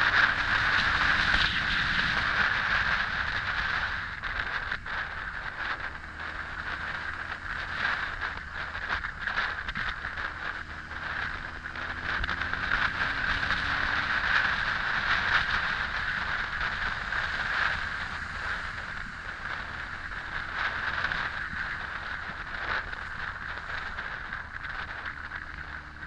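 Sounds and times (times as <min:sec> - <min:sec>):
faint motorcycle engine: 0:00.0 - 0:26.0
wind rushing over microphone: 0:00.0 - 0:26.0.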